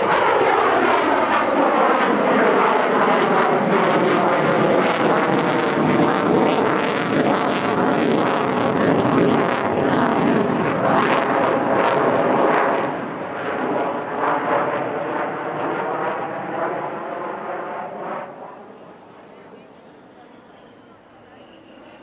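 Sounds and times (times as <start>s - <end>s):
fighter jet passing overhead: 0.0s - 22.0s.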